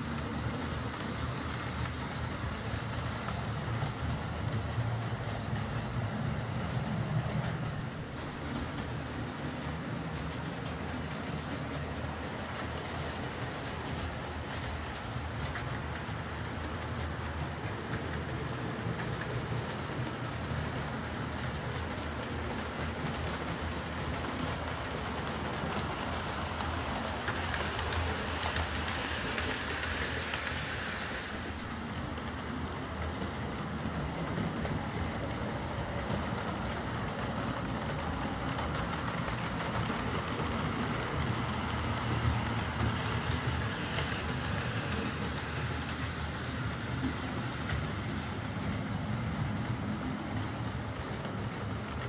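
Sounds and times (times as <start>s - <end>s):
model trains whirring on track: 0.0s - 52.0s.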